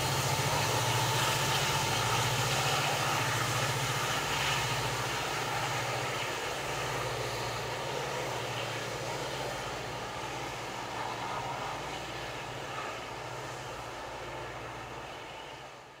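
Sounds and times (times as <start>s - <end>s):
diesel locomotive engine drone: 0.0s - 16.0s
rolling train rumble: 0.0s - 16.0s.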